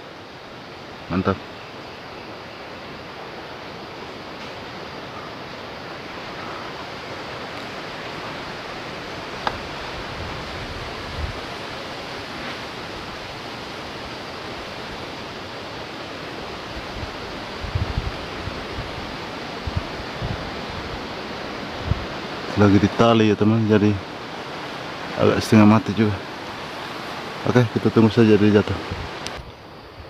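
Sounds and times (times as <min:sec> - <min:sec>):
strong wind through foliage: 0:00.0 - 0:30.0.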